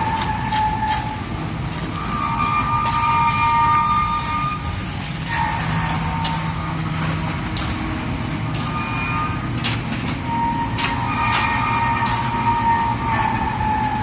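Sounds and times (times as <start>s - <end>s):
heavy machinery running: 0.0s - 14.0s
high metallic squeals: 0.0s - 14.0s.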